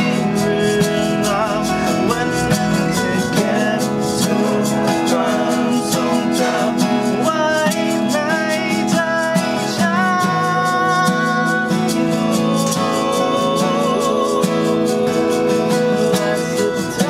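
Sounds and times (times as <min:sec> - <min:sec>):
acoustic guitars strumming: 0:00.0 - 0:17.0
man singing: 0:00.0 - 0:17.0.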